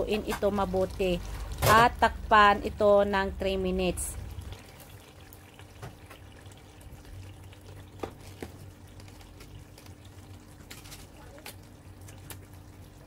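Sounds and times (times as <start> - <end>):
sauce bubbling in a pot: 0.3 - 13.0.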